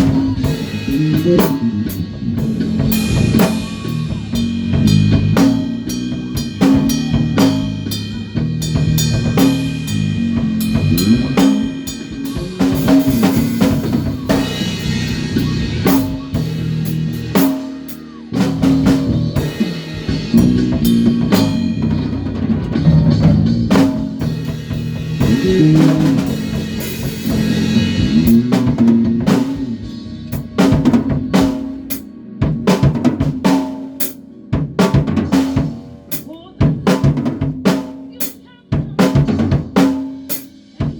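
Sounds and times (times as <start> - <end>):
bass line: 0.0 - 37.9
drum kit groove: 0.0 - 40.9.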